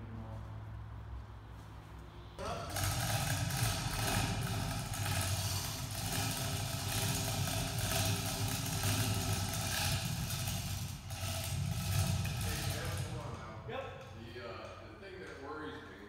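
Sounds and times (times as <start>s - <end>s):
chain hoist motor humming: 2.4s - 15.8s.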